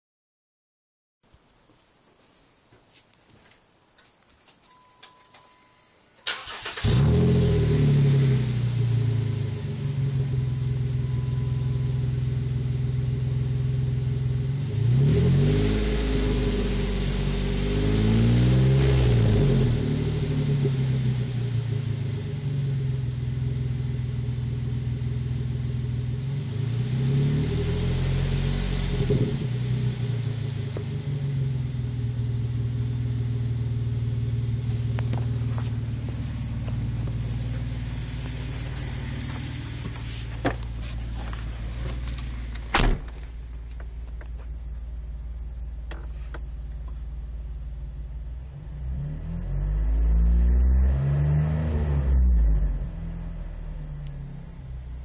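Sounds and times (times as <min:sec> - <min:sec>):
car engine idling and revving: 0:06.2 - 0:55.0.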